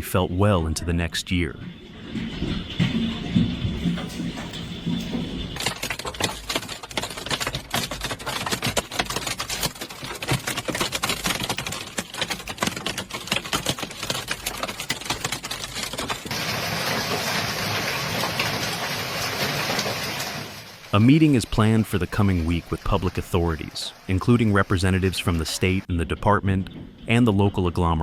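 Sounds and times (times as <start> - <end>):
hailstones pelting hard surfaces: 1.7 - 25.9
steady hiss of heavy hail: 2.3 - 25.8.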